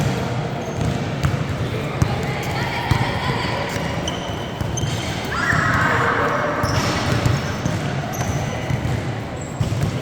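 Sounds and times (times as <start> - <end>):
basketball bouncing on court: 0.0 - 10.0
sneakers squeaking: 0.0 - 10.0.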